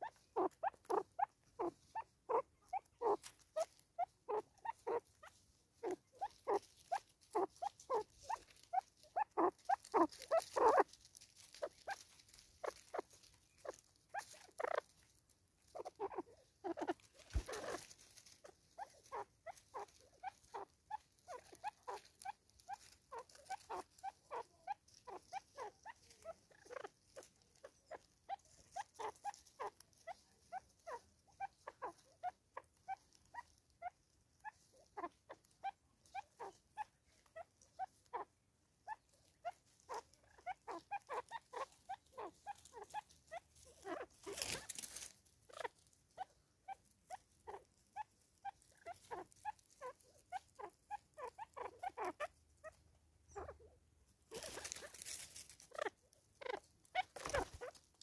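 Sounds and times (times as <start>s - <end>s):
hornbill rapid clucks: 0.0s - 58.0s.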